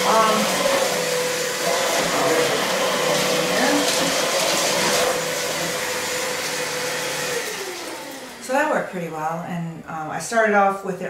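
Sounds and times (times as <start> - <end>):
vacuum cleaner running: 0.0 - 10.7.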